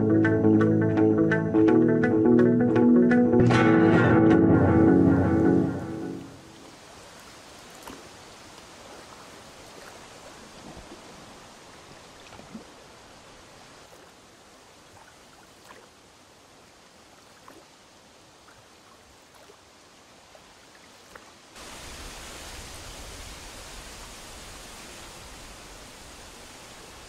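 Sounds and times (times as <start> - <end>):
outdoor background hiss: 4.8 - 27.0.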